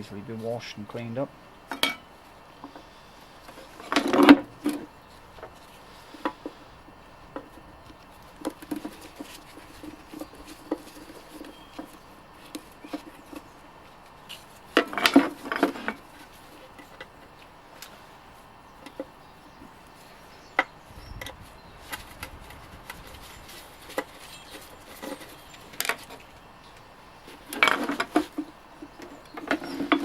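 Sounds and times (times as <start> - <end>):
parts clattering and knocking: 1.7 - 13.6, 14.2 - 18.0, 20.6 - 26.4, 27.3 - 30.0.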